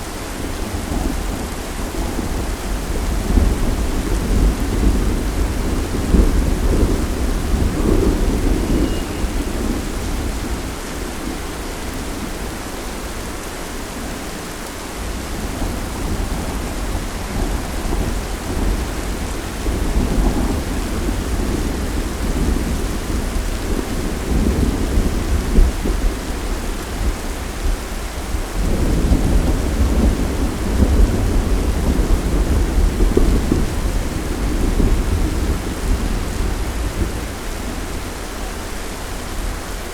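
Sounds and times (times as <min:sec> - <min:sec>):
steady rain: 0:00.0 - 0:39.9
thunder rumbling: 0:00.4 - 0:12.6, 0:15.0 - 0:39.9.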